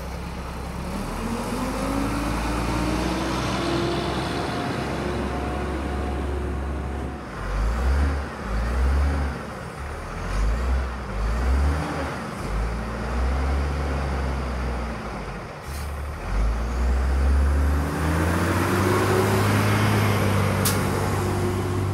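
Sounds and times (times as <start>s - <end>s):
truck diesel engine revving: 0.0s - 21.9s.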